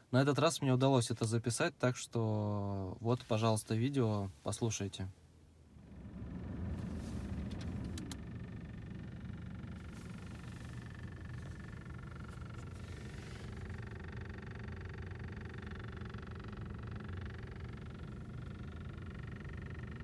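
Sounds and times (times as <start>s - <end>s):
car engine idling: 2.6s - 20.0s.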